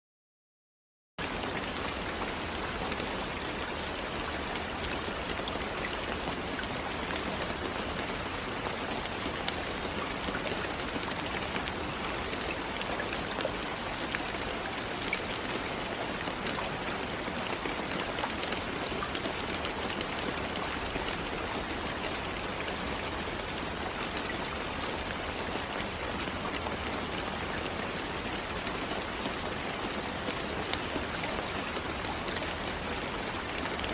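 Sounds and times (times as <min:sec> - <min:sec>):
steady rain: 0:01.2 - 0:33.9.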